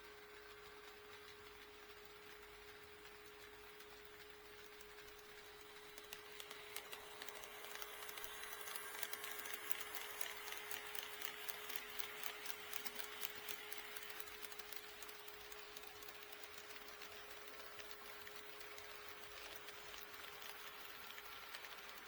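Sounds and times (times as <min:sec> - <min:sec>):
model train motor whirring: 0:00.0 - 0:22.0.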